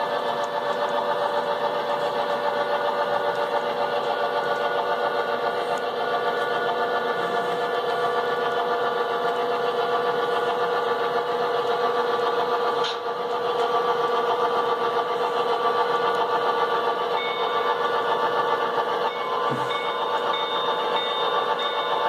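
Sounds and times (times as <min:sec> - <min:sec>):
model train mechanical hum: 0:00.0 - 0:22.0.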